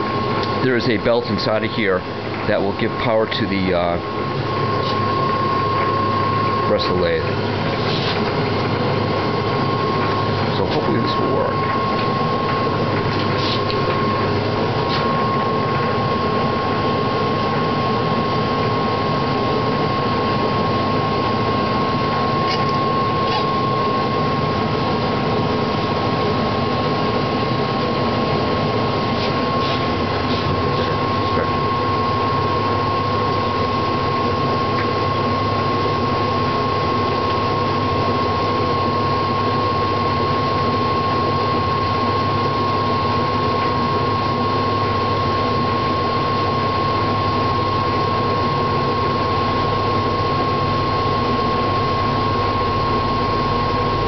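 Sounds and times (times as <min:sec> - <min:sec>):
lathe whirring with high whine: 0:00.0 - 0:54.0.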